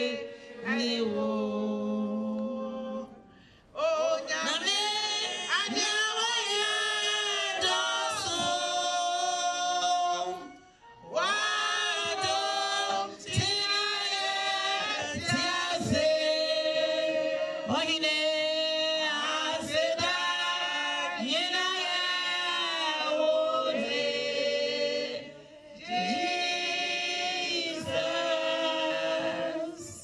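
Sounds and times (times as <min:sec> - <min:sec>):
men and women singing together: 0:00.0 - 0:03.2, 0:03.8 - 0:30.0.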